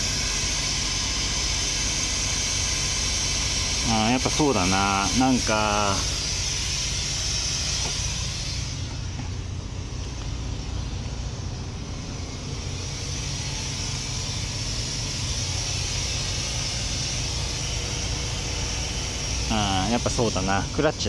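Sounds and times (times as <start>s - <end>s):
compressed air hissing: 0.0s - 21.0s
steady low drone: 0.0s - 21.0s.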